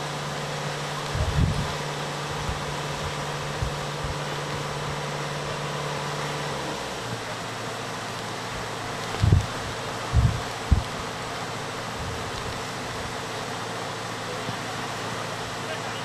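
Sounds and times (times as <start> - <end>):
excavator diesel engine running: 0.0 - 16.0
river rushing: 0.0 - 16.0.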